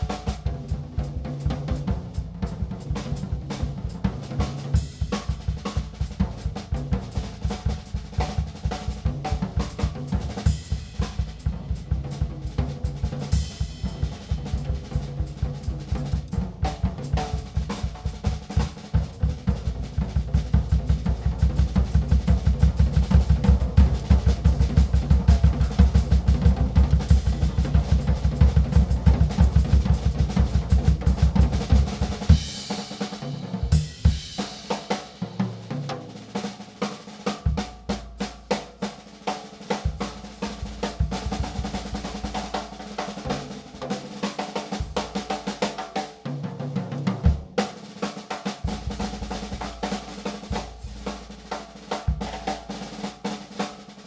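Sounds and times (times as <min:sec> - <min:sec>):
drum kit playing: 0:00.0 - 0:54.0.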